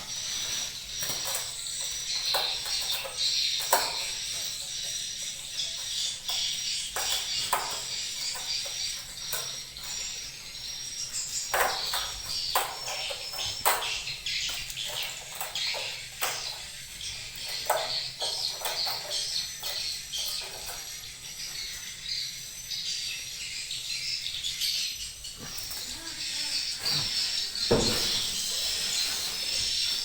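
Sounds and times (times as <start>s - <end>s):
swiftlets chirping and twittering: 0.0s - 30.0s.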